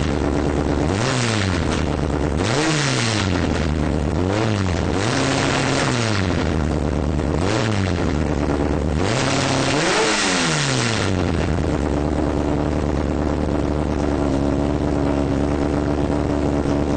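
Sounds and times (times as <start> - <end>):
car engine idling: 0.0 - 16.9
car engine revving: 0.0 - 16.9.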